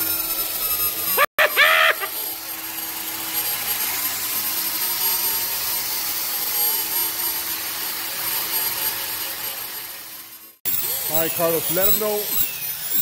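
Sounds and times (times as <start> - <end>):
electric disc sander whirring: 0.0 - 13.0.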